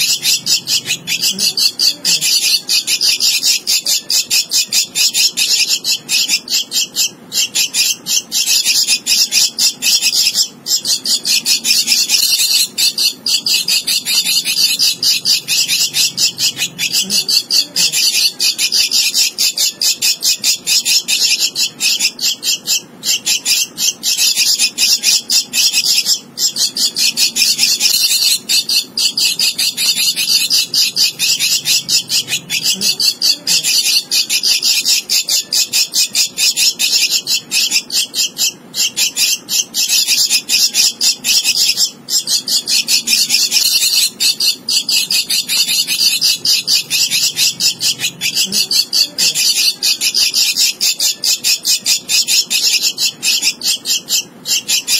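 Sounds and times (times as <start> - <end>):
nestling begging calls: 0.0 - 54.9.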